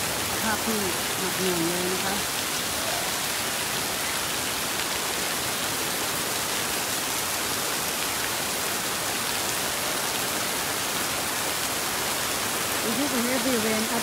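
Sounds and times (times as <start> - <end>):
heavy rain and hail on grass: 0.0 - 14.0.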